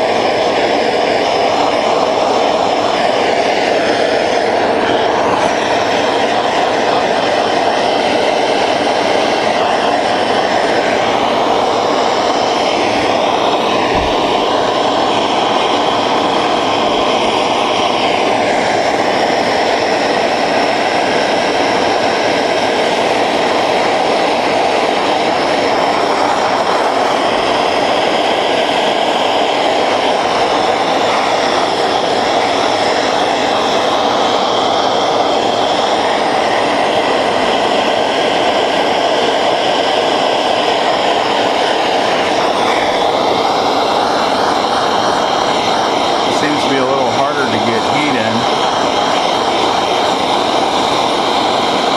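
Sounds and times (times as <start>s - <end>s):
gas torch flame rushing: 0.0s - 51.9s.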